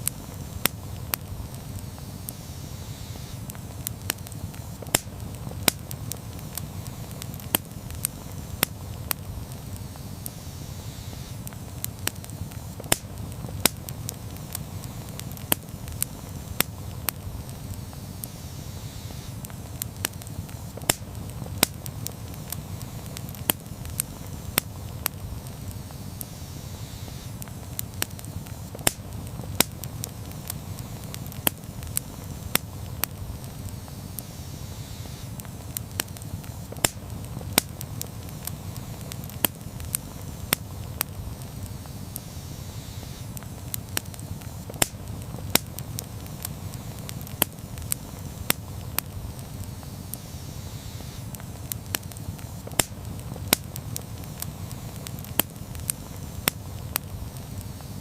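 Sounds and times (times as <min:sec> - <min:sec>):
campfire crackles and pops: 0:00.0 - 0:58.0
low rush of flames: 0:00.0 - 0:58.0.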